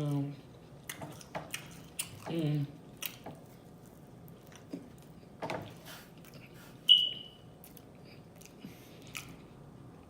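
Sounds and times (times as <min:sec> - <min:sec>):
person chewing food: 0:00.5 - 0:07.0, 0:07.6 - 0:10.0.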